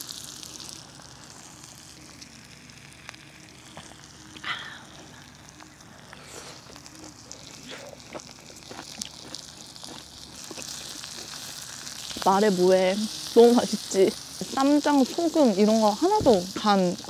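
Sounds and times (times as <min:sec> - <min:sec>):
fire crackles: 0:00.0 - 0:17.0
meat sizzling in grill pan: 0:00.0 - 0:17.0.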